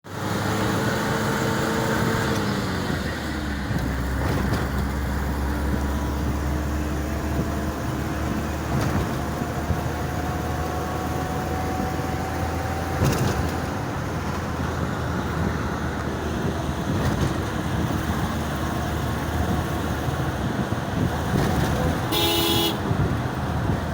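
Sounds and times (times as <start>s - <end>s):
vehicle engine and road rumble: 0.1s - 23.9s.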